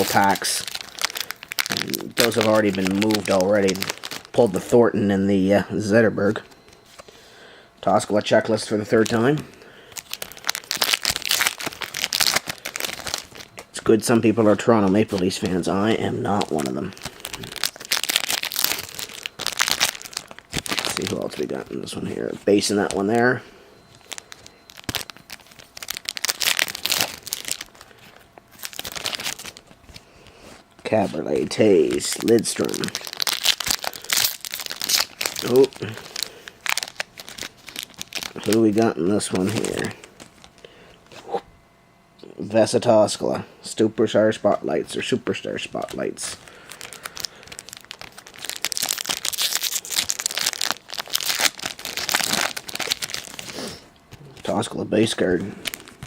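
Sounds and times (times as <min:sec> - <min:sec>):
plastic wrapper crinkling: 0:00.0 - 0:04.8, 0:07.9 - 0:40.7, 0:44.9 - 0:56.0.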